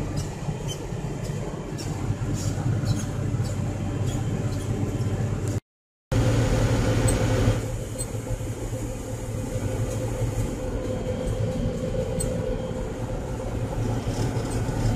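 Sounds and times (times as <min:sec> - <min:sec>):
tractor diesel engine drone: 0:00.0 - 0:14.9.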